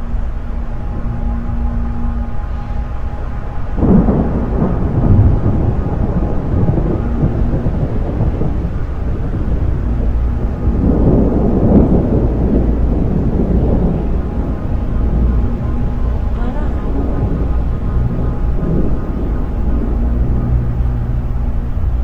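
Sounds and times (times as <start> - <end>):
earthquake deep rumbling: 0.0 - 22.0.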